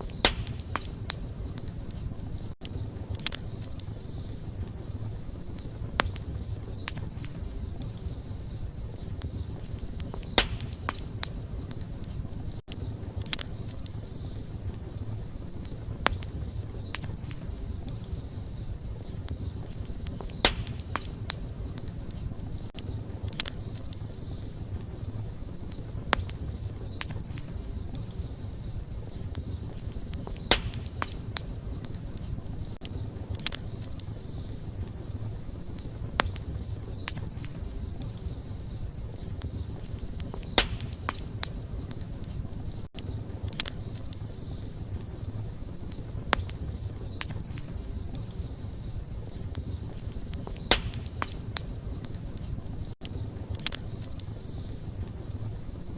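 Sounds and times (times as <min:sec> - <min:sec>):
low rumble of flames: 0:00.0 - 0:55.9
pops and crackles of burning wood: 0:00.0 - 0:55.9.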